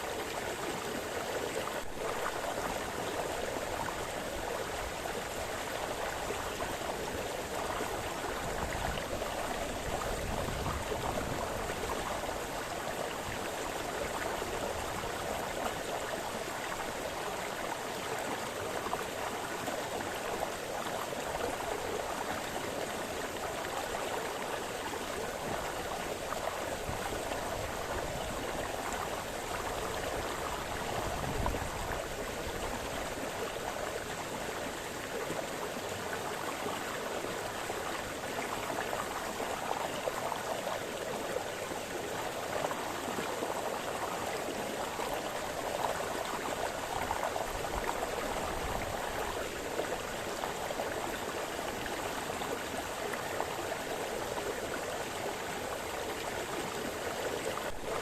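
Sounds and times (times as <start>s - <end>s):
brook burbling over stones: 0.0s - 58.0s.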